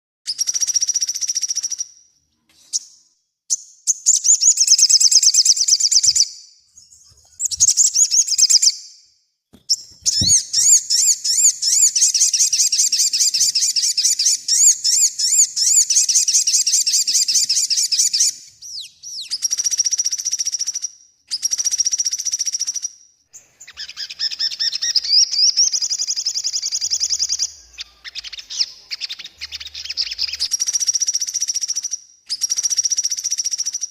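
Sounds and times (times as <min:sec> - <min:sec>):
songbird singing trilled phrases: 0:03.5 - 0:09.0, 0:09.7 - 0:33.8.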